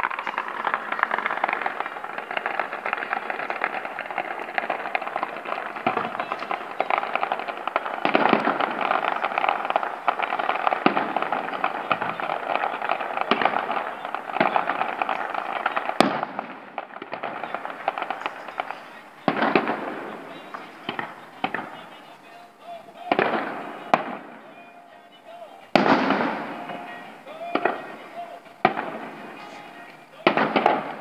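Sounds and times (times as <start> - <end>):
fireworks bangs: 0.0 - 31.0
fireworks crackling: 0.0 - 31.0.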